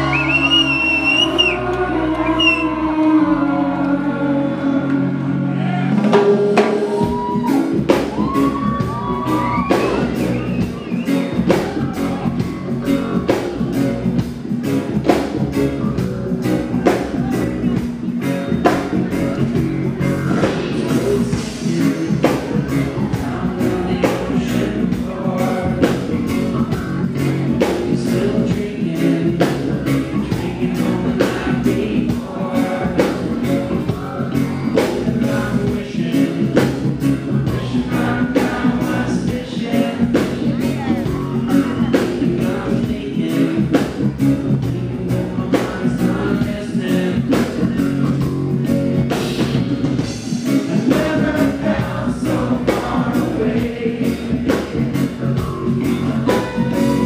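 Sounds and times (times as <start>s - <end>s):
person singing: 0.0s - 14.0s, 15.9s - 57.0s
electric guitar: 0.0s - 57.0s
live reggae band: 0.0s - 57.0s.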